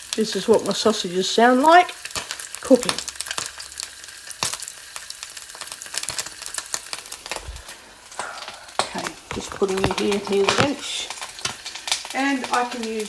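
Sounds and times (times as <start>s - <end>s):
sausages sizzling in a pan: 0.0s - 13.0s
hot oil spitting pops: 1.9s - 13.0s.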